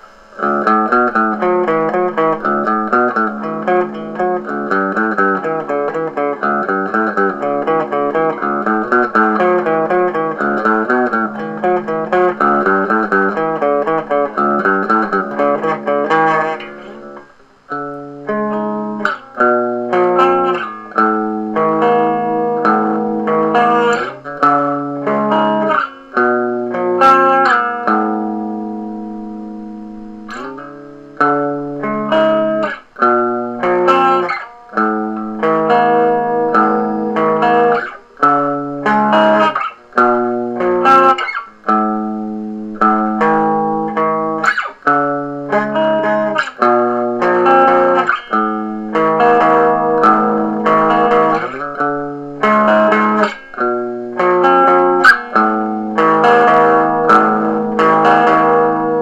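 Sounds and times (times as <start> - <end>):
electric guitar through small amp: 0.0 - 59.0.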